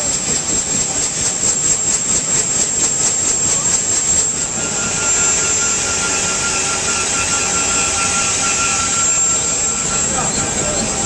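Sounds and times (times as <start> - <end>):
helicopter turbine engine whine: 0.0 - 11.0.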